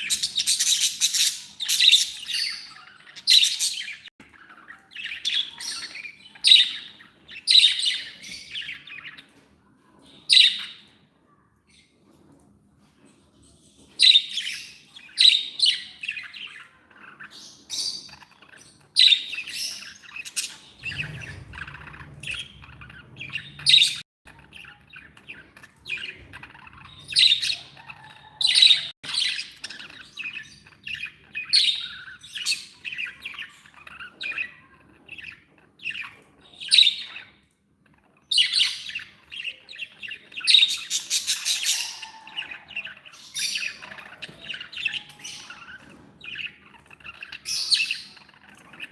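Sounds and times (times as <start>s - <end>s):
budgerigars chirping and squawking: 0.0s - 11.0s, 13.2s - 48.9s.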